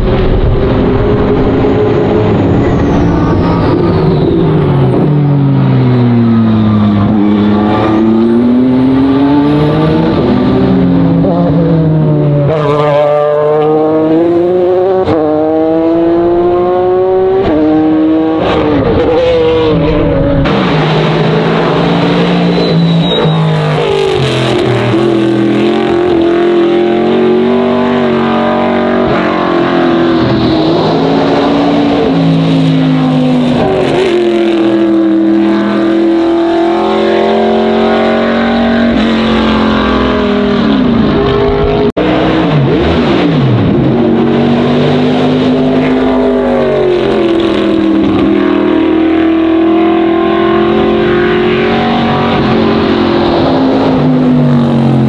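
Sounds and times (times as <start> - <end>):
race car engines accelerating: 0.0 - 55.0.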